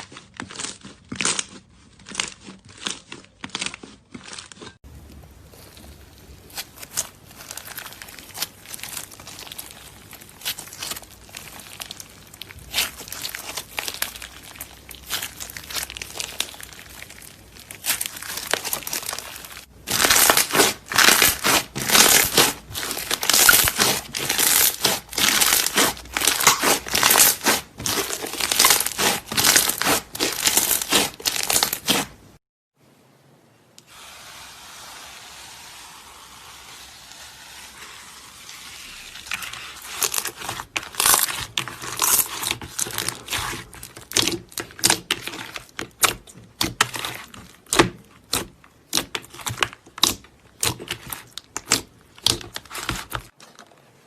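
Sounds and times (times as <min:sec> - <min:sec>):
slime crackling and popping: 0:00.0 - 0:32.2, 0:38.6 - 0:53.4.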